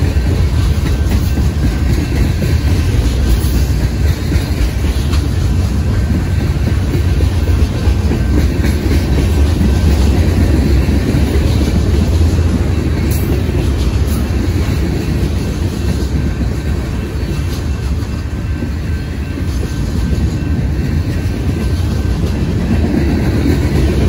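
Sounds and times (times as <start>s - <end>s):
freight train rumbling past: 0.0s - 24.0s
wheels clacking on rails: 0.0s - 24.0s.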